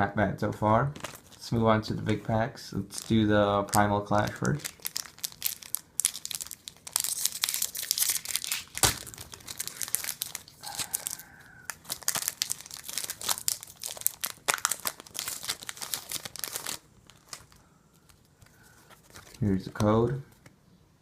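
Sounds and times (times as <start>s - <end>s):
foil wrapper crinkling and tearing: 1.0s - 1.4s, 2.9s - 19.8s.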